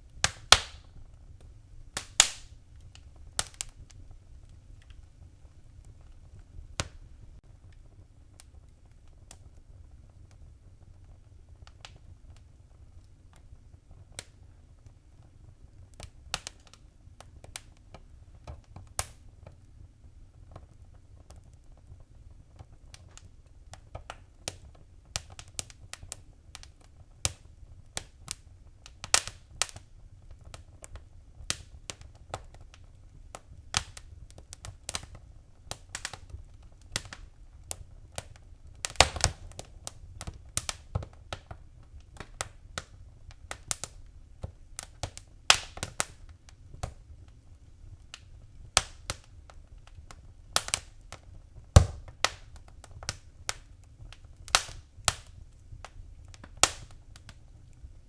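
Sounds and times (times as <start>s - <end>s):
fire pops and snaps: 0.0s - 58.0s
low rush of flames: 0.0s - 58.0s.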